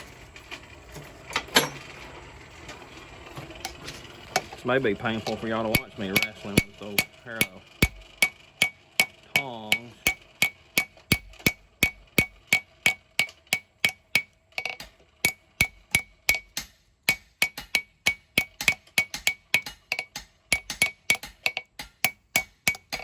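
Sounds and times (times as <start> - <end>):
hammer striking steel on anvil: 4.3 - 23.0.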